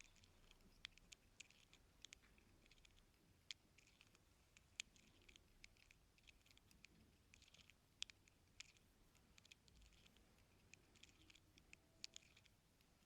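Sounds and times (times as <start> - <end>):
ear-cleaning tool clicking and scratching: 0.0 - 13.0.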